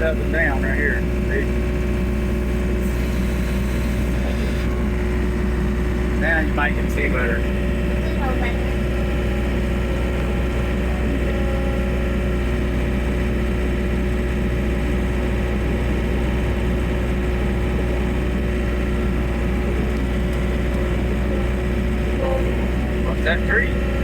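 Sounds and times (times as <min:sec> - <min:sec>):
loader engine running: 0:00.0 - 0:24.0.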